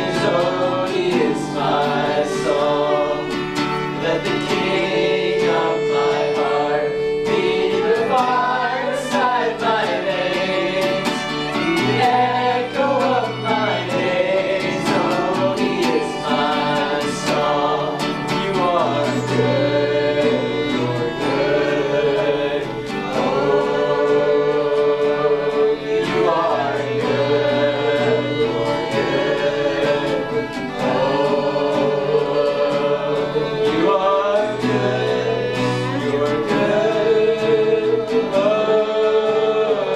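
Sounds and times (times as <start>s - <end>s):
acoustic guitar: 0.0s - 39.9s
voices singing gospel: 0.0s - 39.9s.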